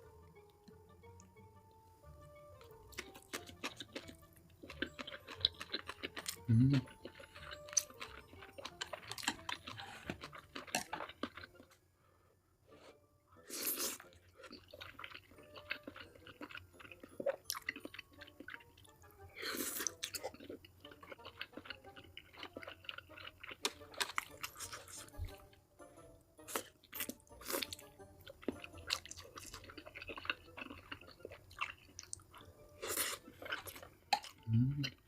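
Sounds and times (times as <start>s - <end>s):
close chewing and mouth sounds: 2.6s - 11.8s, 13.5s - 25.6s, 26.4s - 35.0s.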